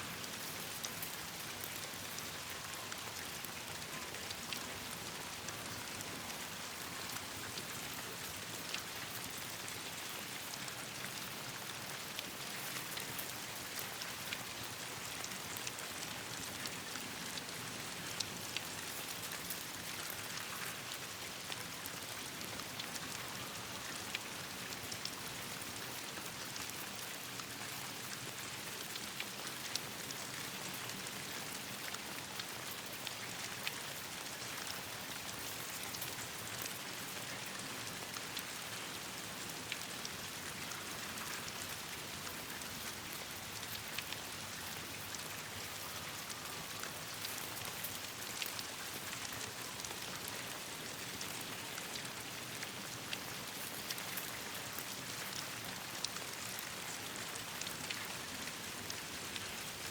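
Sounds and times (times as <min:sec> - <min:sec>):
steady rain falling: 0:00.0 - 0:59.9
sharp ticks of raindrops: 0:00.1 - 0:59.9.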